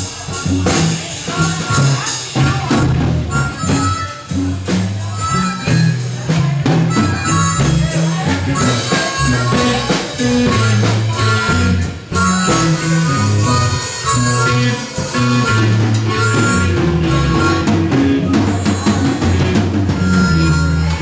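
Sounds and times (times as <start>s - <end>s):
guitar: 0.0s - 21.0s
harmonica playing lead: 0.0s - 21.0s
steady drum beat: 0.0s - 21.0s
walking bass line: 0.0s - 21.0s.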